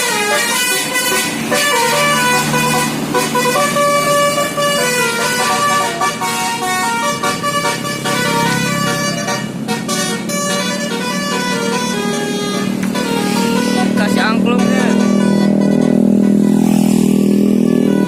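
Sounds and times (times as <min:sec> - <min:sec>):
multi-note musical bus horn: 0:00.0 - 0:18.0.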